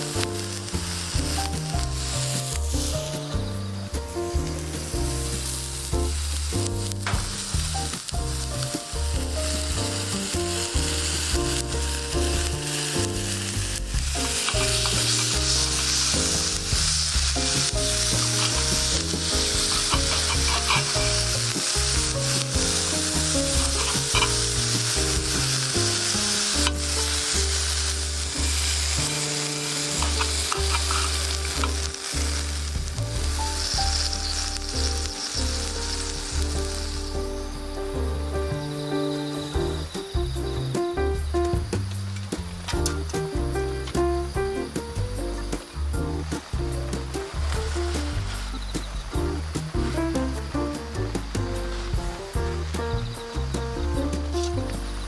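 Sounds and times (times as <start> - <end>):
food sizzling in a pan: 0.0 - 40.7, 44.2 - 55.0.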